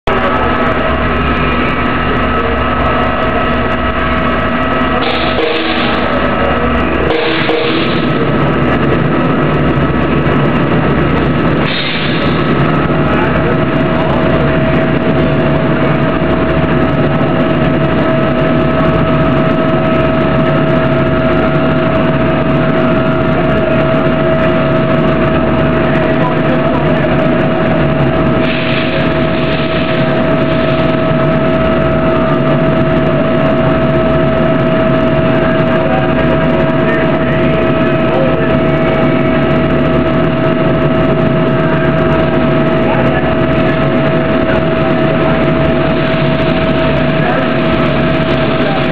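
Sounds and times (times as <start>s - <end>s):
constant whine: 0.0s - 48.9s
machinery drone: 0.0s - 48.9s.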